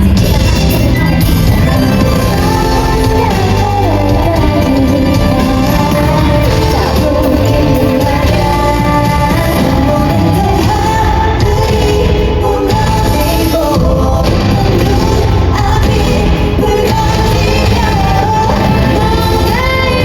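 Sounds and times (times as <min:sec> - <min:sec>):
pop song over loudspeakers: 0:00.0 - 0:20.0
women singing: 0:00.0 - 0:20.0.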